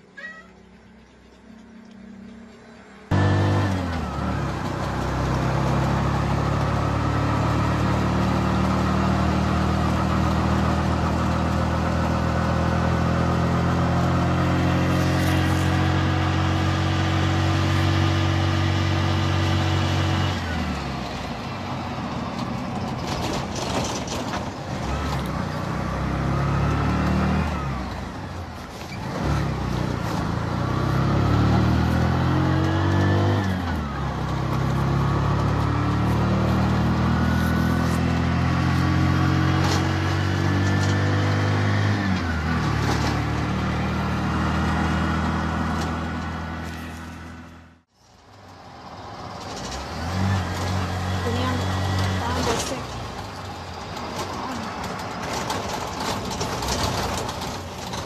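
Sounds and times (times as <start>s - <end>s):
vehicle engine shifting gears: 0.0s - 58.0s.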